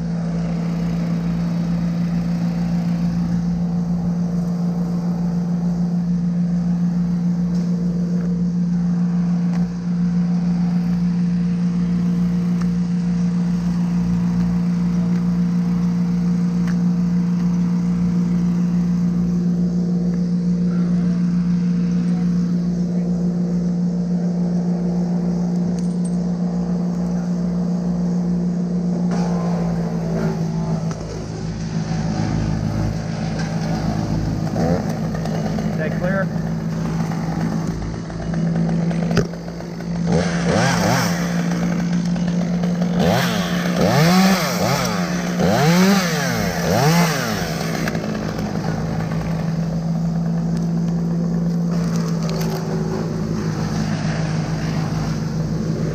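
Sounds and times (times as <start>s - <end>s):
large engine humming: 0.0s - 55.9s.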